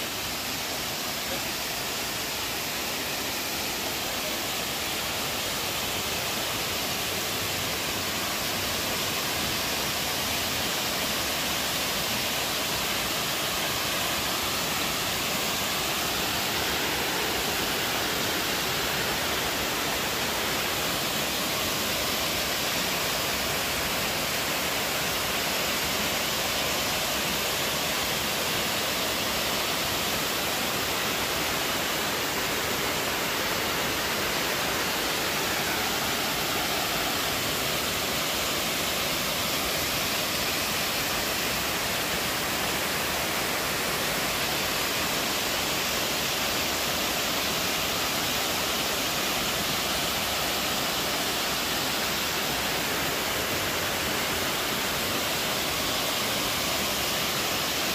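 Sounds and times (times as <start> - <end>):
water rushing down waterfall: 0.0 - 57.9.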